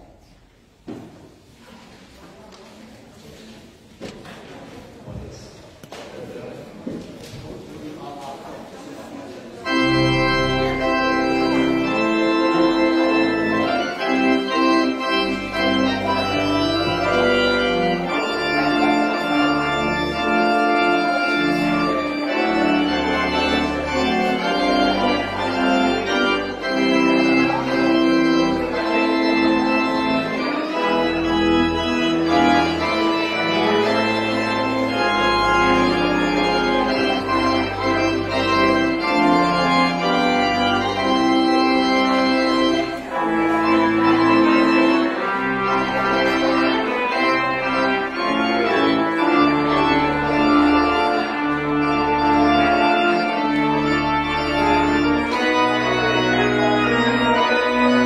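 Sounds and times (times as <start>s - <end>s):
deep organ pedal bass notes: 9.6s - 58.0s
pipe organ chords: 9.6s - 58.0s.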